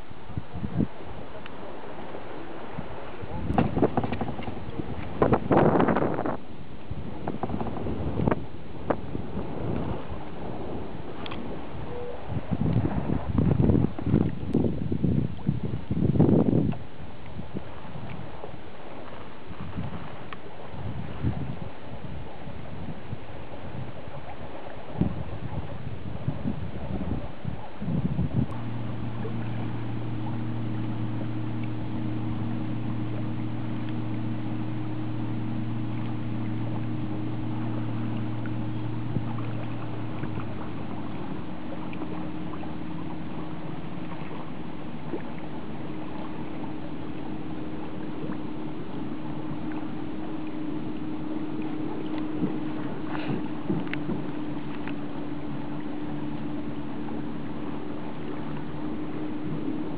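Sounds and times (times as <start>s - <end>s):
boat engine hum: 0.0s - 59.9s
water around kayak: 0.0s - 59.9s
wind: 0.0s - 59.9s.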